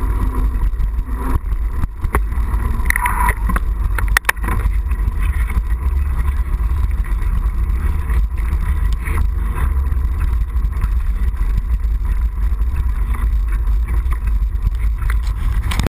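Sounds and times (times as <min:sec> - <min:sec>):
bike rattling: 0:00.0 - 0:15.9
wind buffeting camera: 0:00.0 - 0:15.9.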